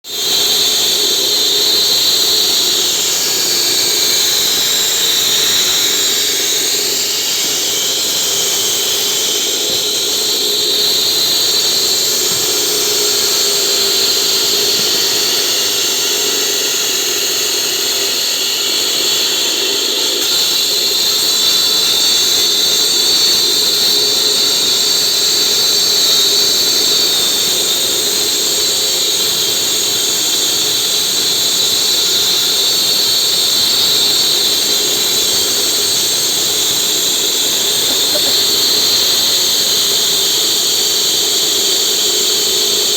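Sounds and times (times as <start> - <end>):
concrete saw whining: 0.0 - 42.9.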